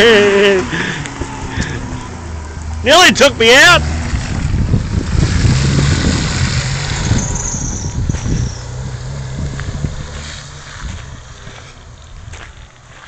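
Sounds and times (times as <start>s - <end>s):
vehicle engine driving on dirt: 0.0s - 13.0s.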